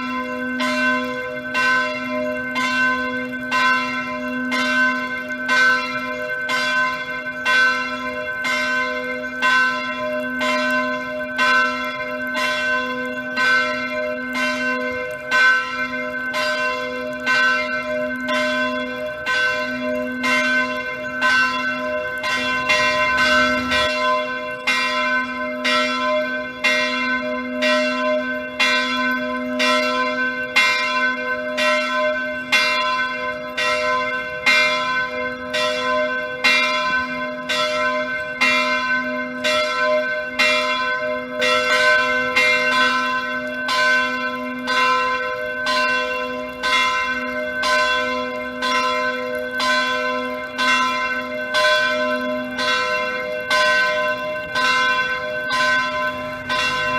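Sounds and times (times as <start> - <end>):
church bells ringing: 0.0 - 56.9.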